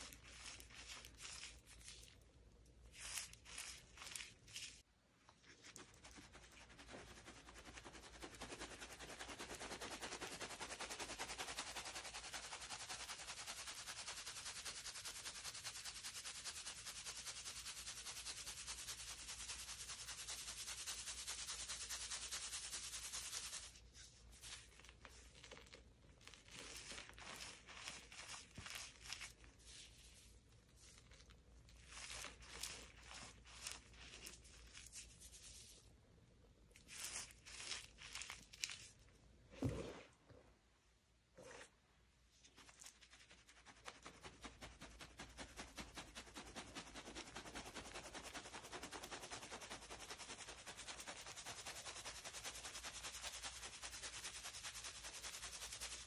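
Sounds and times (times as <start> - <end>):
chalk shaken through mesh sieve: 0.0 - 4.8, 5.5 - 35.9, 42.4 - 56.0.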